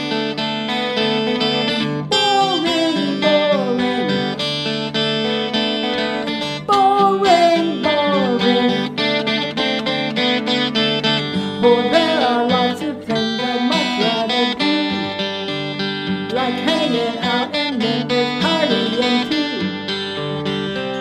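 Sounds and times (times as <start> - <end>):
strummed acoustic guitar chords: 0.0 - 21.0.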